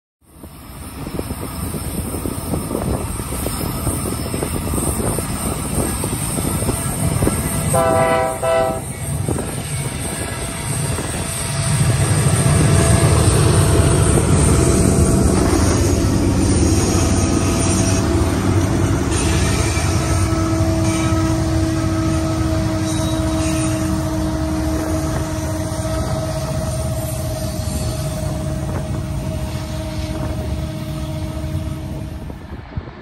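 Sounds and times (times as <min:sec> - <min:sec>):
diesel locomotive engine rumble: 0:00.2 - 0:33.0
freight cars rolling on rails: 0:00.2 - 0:33.0.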